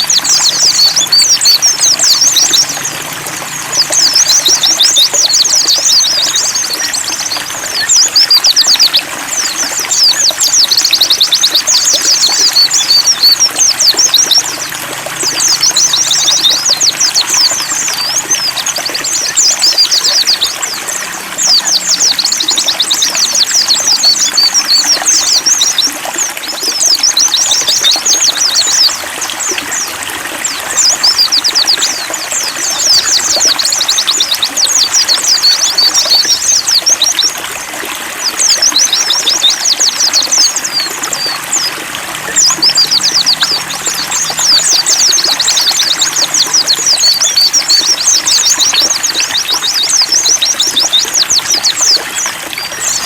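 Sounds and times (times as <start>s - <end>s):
bird twittering song: 0.0s - 53.0s
water trickling: 0.0s - 53.0s.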